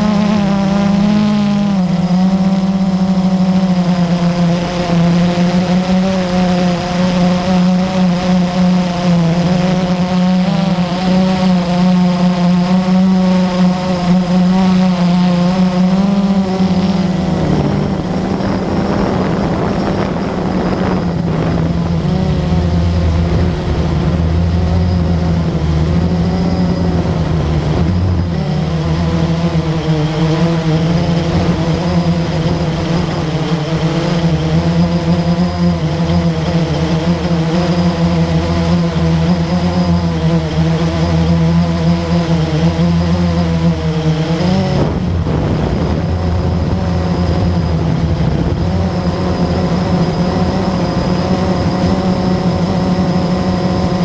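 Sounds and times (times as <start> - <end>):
drone propellers humming: 0.0 - 54.0
lower hum: 0.0 - 54.0.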